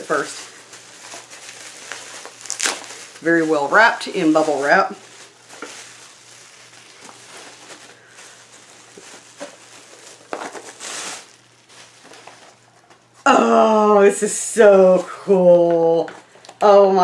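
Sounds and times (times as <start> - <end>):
bubble wrap crinkling and rustling: 0.0 - 17.0.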